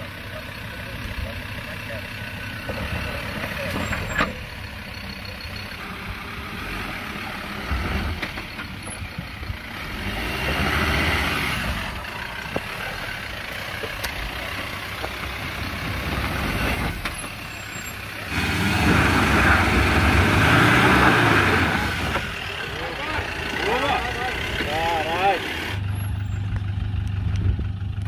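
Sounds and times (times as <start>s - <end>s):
diesel engine at low revs: 0.0s - 28.0s.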